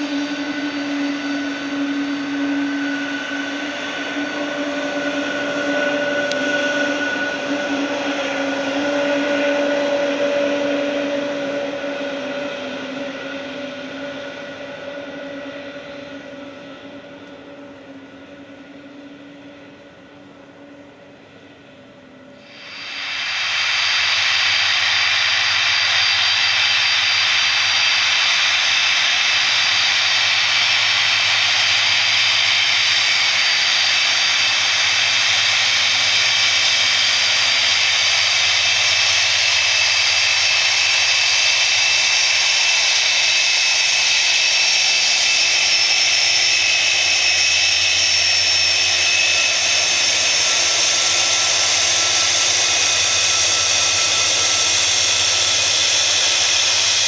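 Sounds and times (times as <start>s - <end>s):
jet engines running on ground: 0.0s - 57.0s.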